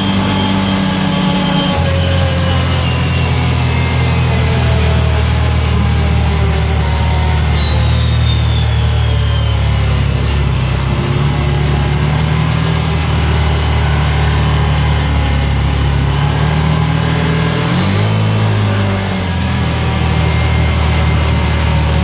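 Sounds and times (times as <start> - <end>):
utility vehicle engine running: 0.0 - 22.0.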